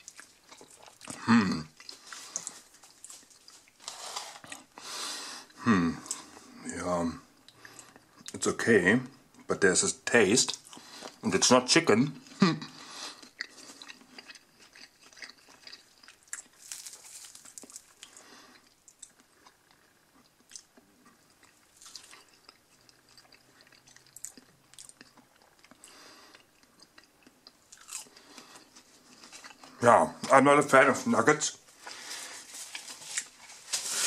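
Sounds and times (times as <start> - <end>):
person chewing food: 0.0 - 6.6, 7.3 - 8.4, 10.5 - 11.2, 12.2 - 29.8, 31.7 - 34.0.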